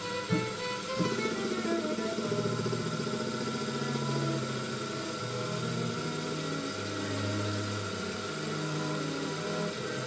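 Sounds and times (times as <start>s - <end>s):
lathe machine whine: 0.0s - 10.0s
steady hiss: 0.0s - 10.0s.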